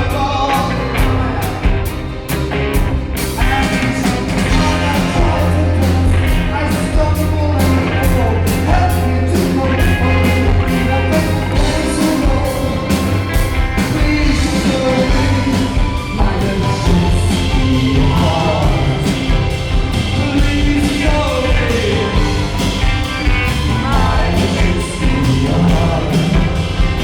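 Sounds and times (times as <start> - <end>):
pop-rock band playing: 0.0 - 27.0
steady drum beat: 0.0 - 27.0
strong bass line: 0.0 - 27.0.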